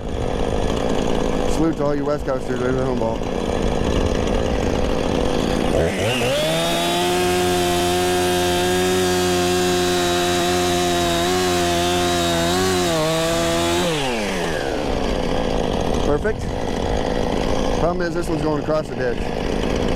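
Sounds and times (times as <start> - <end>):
chainsaw cutting tree: 0.0 - 19.9.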